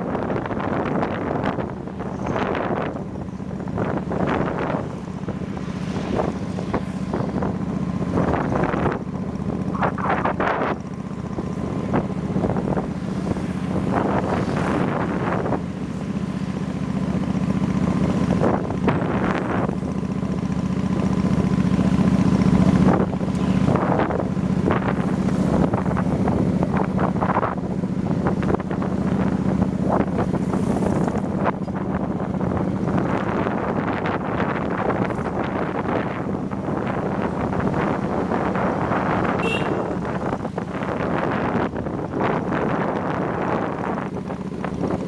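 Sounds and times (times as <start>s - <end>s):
motorbike engine drone: 0.0s - 45.0s
wind buffeting microphone: 0.0s - 45.0s.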